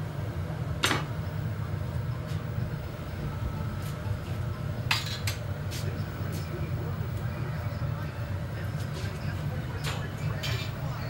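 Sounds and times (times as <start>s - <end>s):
furnace burner roaring: 0.0s - 11.0s.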